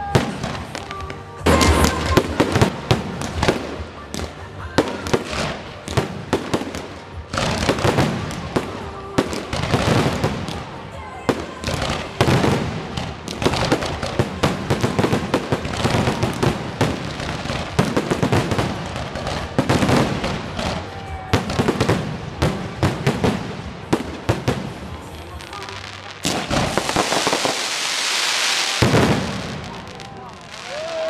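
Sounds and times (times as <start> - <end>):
fireworks bursts and crackling: 0.0 - 31.0.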